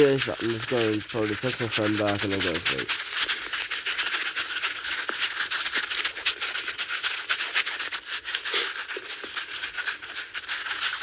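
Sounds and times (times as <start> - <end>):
tennis ball scratching on microphone: 0.0 - 11.0.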